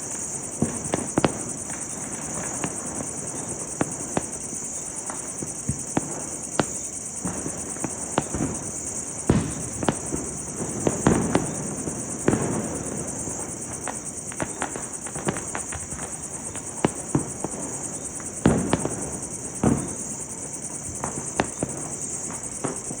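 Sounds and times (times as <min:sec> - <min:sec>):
crickets chirring: 0:00.0 - 0:23.0
firecrackers banging: 0:00.2 - 0:23.0.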